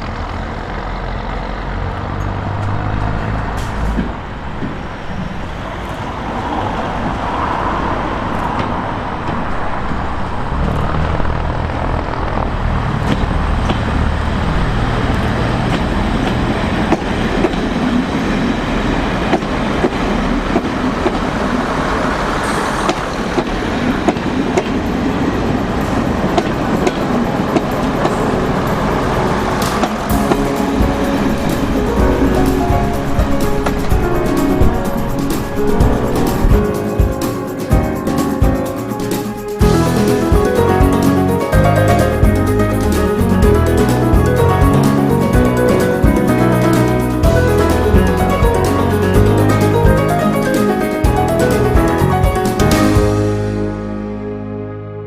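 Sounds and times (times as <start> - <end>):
train engine and running gear: 0.0 - 52.8.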